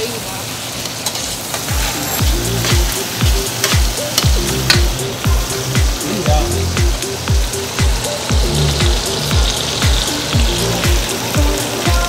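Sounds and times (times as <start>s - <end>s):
food sizzling in a wok: 0.0s - 12.0s
music with thumping beat: 1.6s - 12.0s.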